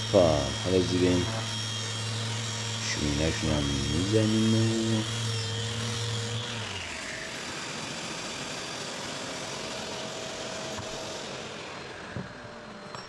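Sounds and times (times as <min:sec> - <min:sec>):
power tool motor whining: 0:00.0 - 0:13.0.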